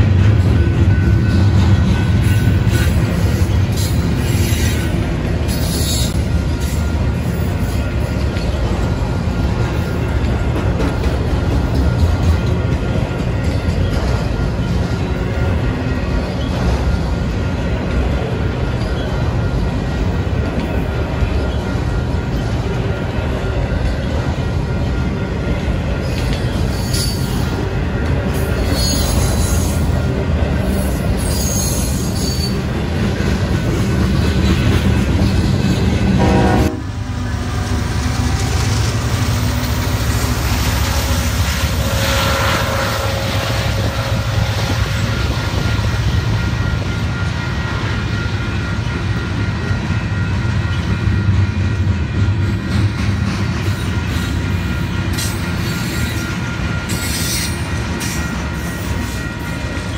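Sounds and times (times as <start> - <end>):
diesel locomotive passing: 0.0 - 59.9
freight train wheels clattering: 0.0 - 59.9.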